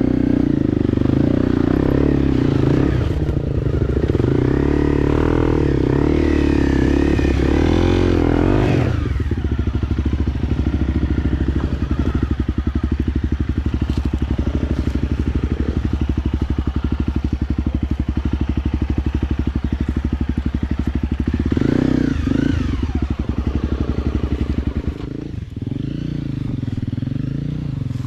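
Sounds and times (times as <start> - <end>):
small engine puttering: 0.7 - 28.0.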